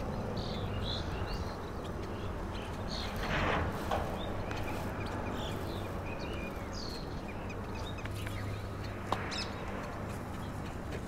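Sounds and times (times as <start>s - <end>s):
small birds chirping: 0.0s - 11.0s
steady background noise: 0.0s - 11.0s.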